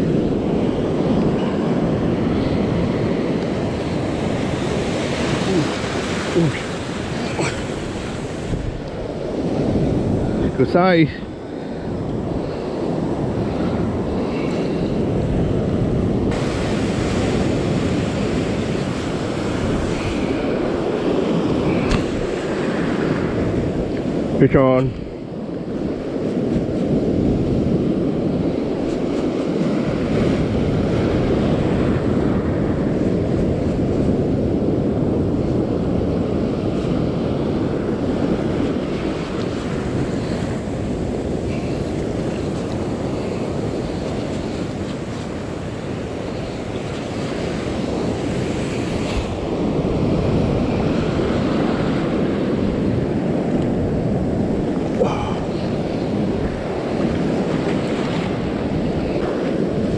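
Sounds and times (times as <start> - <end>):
ocean surf breaking: 0.0 - 59.9
wind rumble on microphone: 0.0 - 59.9.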